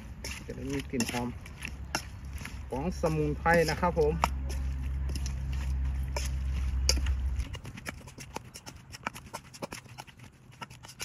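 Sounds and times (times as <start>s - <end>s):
metal spoon scraping steel bowl: 0.0s - 11.0s.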